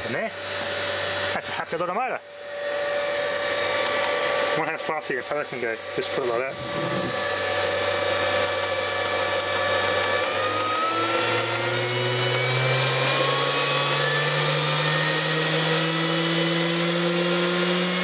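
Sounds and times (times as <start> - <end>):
pump motor whine rising in pitch: 0.0 - 18.0.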